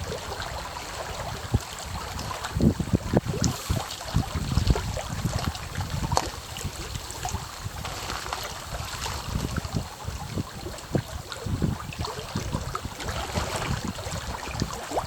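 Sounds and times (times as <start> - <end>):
small waves lapping against bank: 0.0 - 15.0.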